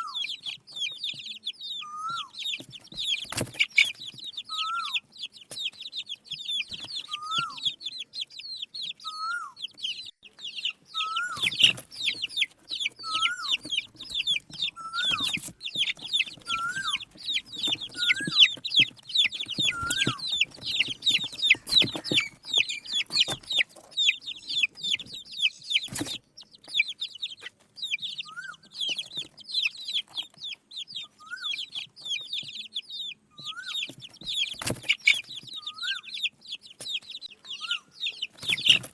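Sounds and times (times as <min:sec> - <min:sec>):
chicks cheeping: 0:00.0 - 0:38.9.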